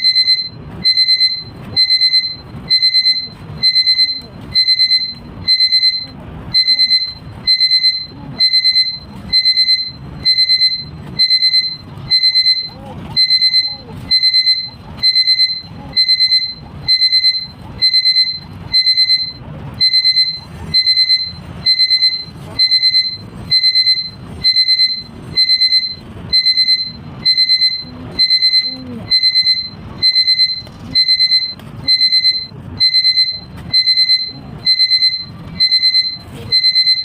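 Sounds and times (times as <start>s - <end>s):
electronic alarm beeping: 0.0s - 37.0s.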